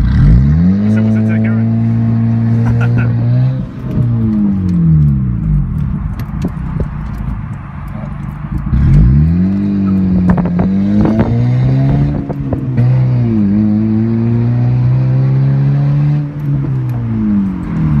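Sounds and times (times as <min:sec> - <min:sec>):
car engine and exhaust: 0:00.0 - 0:18.0.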